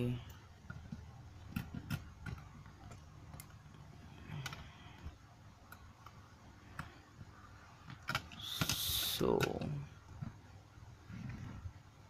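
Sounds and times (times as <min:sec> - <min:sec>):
circuit boards clicking and tapping: 0:00.0 - 0:10.4.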